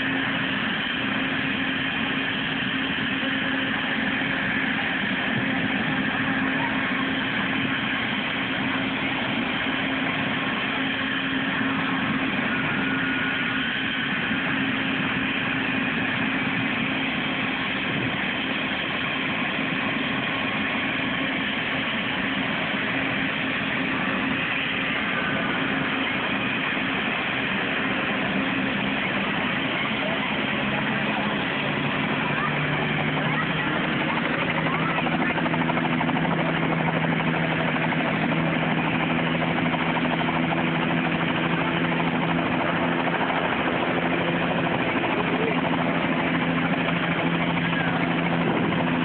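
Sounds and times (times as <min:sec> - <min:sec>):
helicopter turbine whine and rotor: 0:00.0 - 0:49.0.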